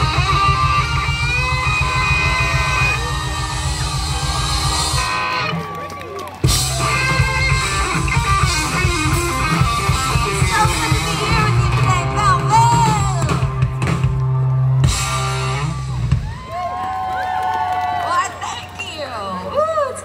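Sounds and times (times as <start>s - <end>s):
loud rock band music: 0.0s - 16.8s.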